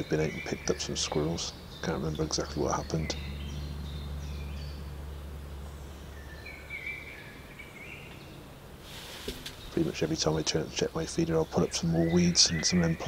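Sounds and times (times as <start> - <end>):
low hum: 0.0 - 13.0
songbirds singing: 0.0 - 13.0.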